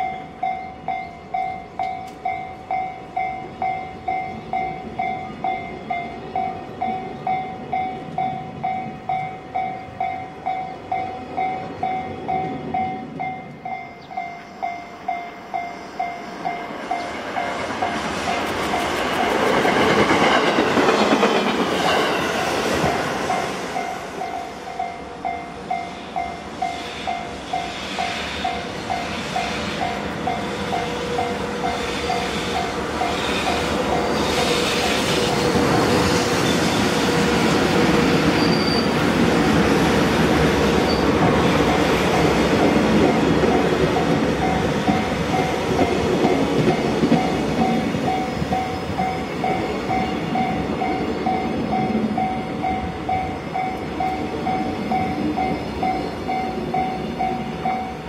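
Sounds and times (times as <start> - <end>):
level crossing warning bell: 0.0 - 20.4, 21.9 - 34.2, 40.8 - 58.0
electric train passing: 0.0 - 58.0
freight train rolling on jointed track: 0.0 - 58.0.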